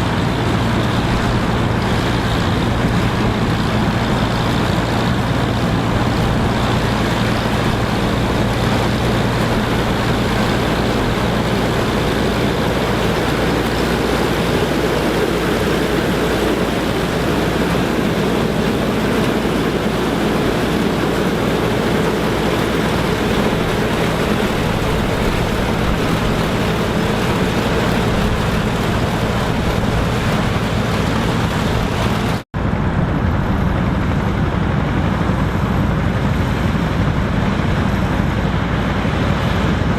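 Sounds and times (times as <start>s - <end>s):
farm machinery engine running: 0.0s - 39.9s.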